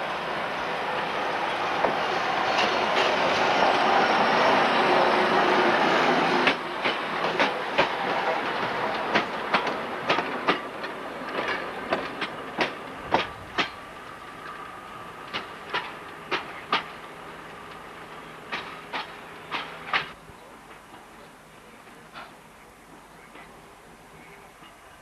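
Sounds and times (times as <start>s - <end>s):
railway wagons rolling rumble: 0.0s - 25.0s.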